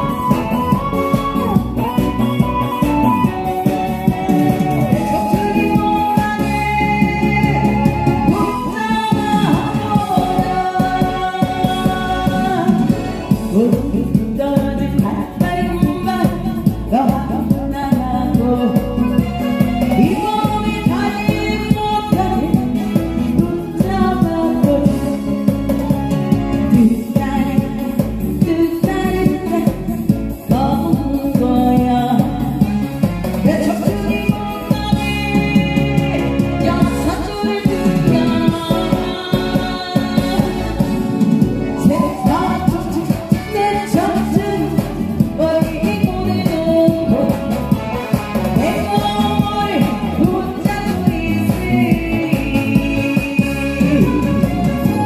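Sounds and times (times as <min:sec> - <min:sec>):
person singing: 0:00.0 - 0:25.4, 0:33.4 - 0:55.0
amplified backing music with beat: 0:00.0 - 0:55.0.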